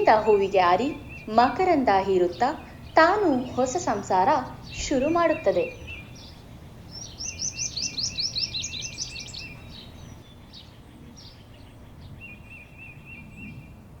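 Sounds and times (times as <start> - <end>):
bird twittering: 0.0 - 13.7
songbird singing: 0.0 - 14.0.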